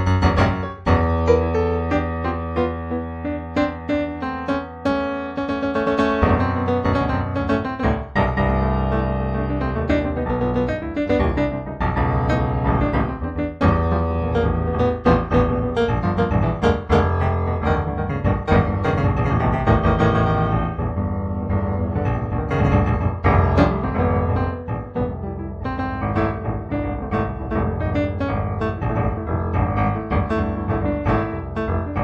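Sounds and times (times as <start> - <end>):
solo piano music: 0.0 - 32.0.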